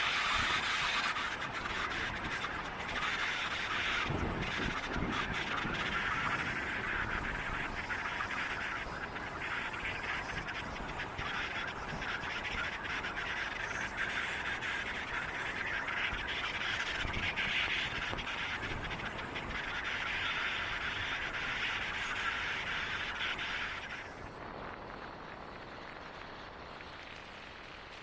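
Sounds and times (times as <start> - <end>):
low rumble of wind or traffic: 0.0 - 28.0
many birds chattering: 0.2 - 24.1.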